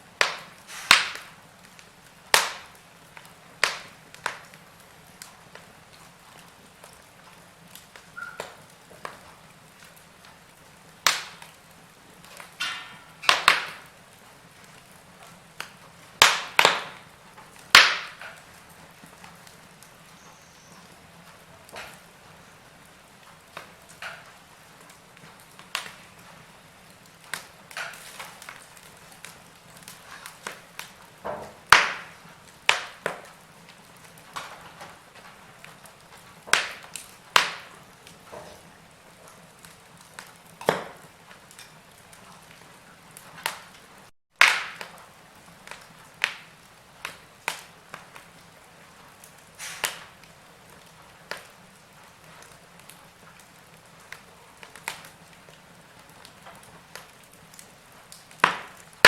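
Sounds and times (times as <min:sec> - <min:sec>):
faint steady hiss: 0:00.0 - 0:59.0
wood fire crackling: 0:00.0 - 0:59.0.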